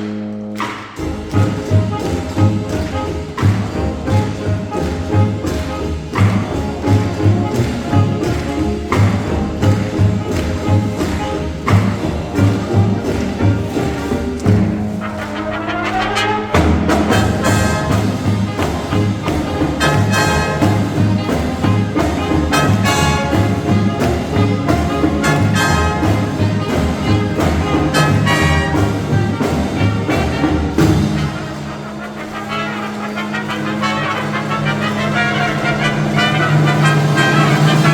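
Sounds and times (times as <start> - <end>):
drums keeping a steady beat: 0.0 - 37.9
marching band brass: 0.0 - 37.9.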